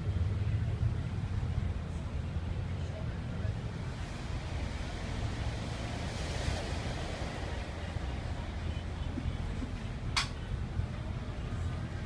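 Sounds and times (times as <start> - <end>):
bus engine rumbling: 0.0 - 12.0
hiss of rain and floodwater: 0.1 - 12.0.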